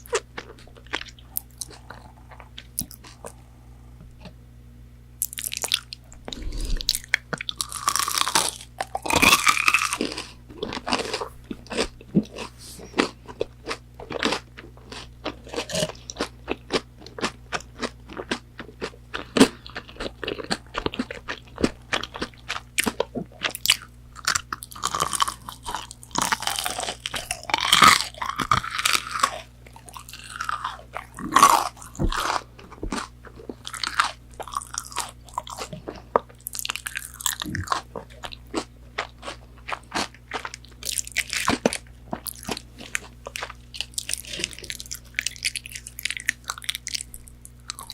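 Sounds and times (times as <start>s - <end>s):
crunching fried chicken: 0.0s - 3.4s, 5.2s - 47.9s
chewing: 0.0s - 3.5s, 5.2s - 47.9s.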